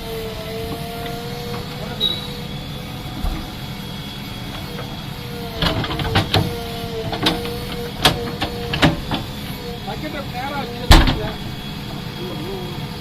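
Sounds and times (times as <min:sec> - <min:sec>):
backhoe loader engine whine: 0:00.0 - 0:13.0.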